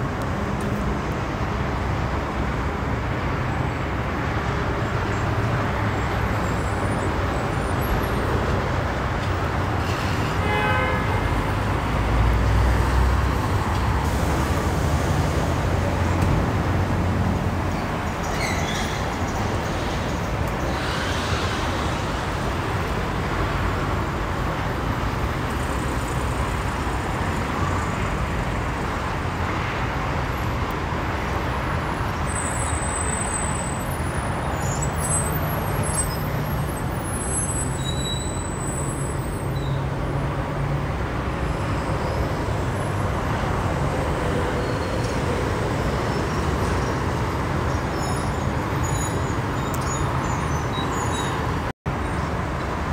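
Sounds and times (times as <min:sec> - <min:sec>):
freeway traffic noise: 0:00.0 - 0:52.9.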